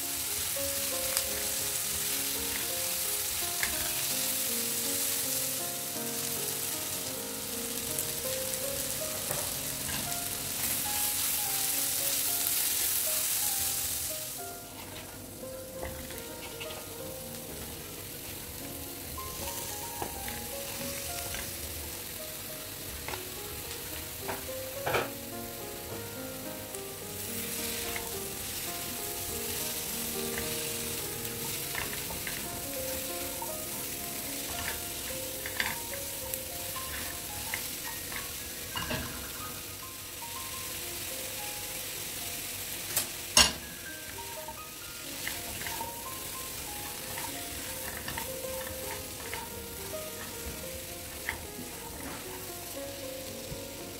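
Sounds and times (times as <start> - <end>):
onions sizzling in hot oil: 0.0 - 53.9.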